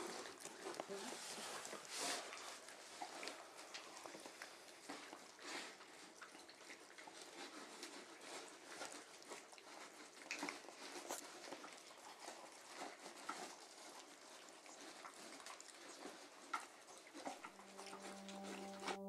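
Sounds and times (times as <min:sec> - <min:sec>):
puppies lapping and chewing: 0:00.0 - 0:19.0.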